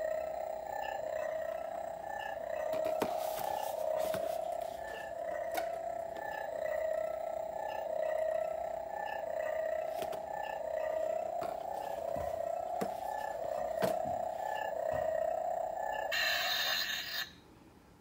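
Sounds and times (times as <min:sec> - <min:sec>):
toy lightsaber electronic hum: 0:00.0 - 0:17.4.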